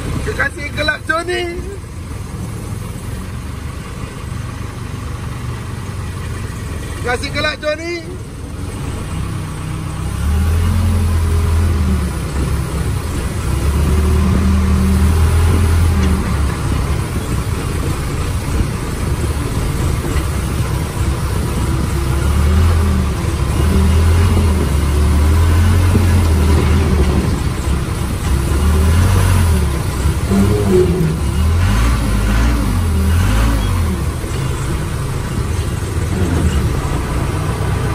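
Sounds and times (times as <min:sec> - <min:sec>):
diesel engine revving: 0:00.0 - 0:37.9.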